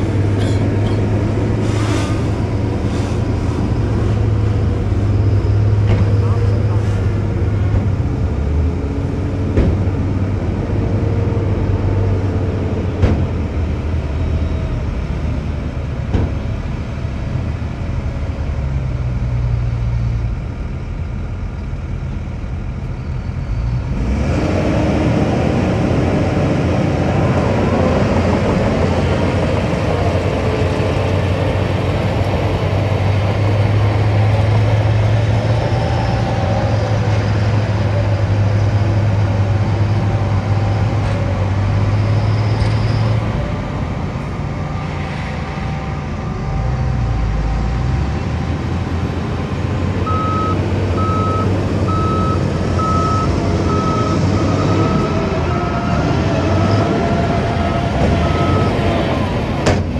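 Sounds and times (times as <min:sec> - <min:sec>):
diesel truck engines running: 0:00.0 - 0:59.9.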